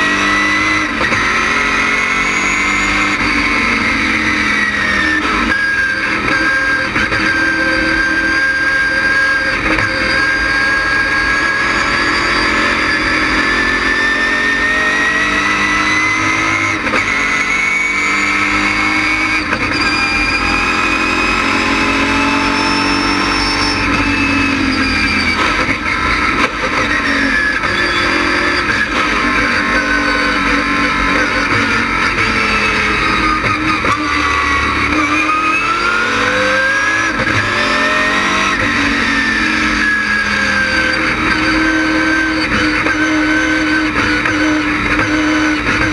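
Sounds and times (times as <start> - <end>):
race car engine running hard: 0.0 - 45.9.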